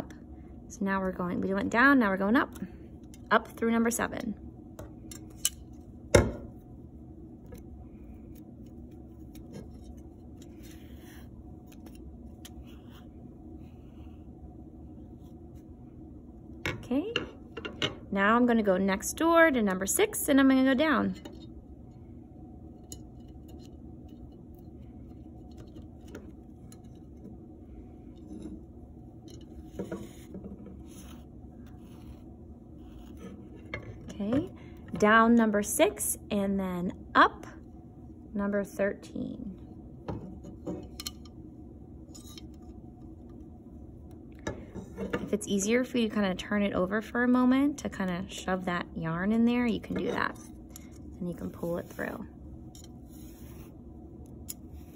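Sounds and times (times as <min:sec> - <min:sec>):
low hum: 0:00.0 - 0:54.9.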